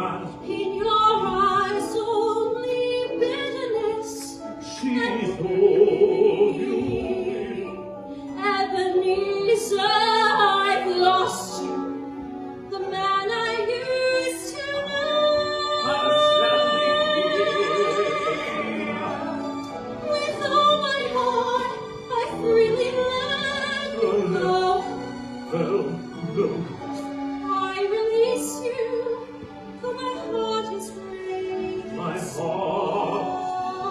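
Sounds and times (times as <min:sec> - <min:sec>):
musical accompaniment: 0:00.0 - 0:33.9
operatic singing with vibrato: 0:00.0 - 0:33.9.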